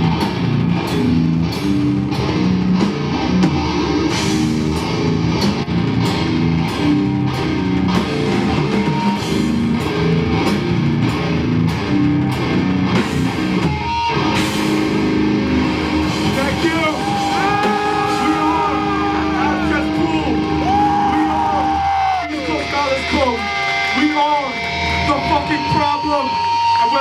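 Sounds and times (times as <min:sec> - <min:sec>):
distorted electric guitar riffs: 0:00.0 - 0:27.0
pounding drum kit: 0:00.0 - 0:27.0.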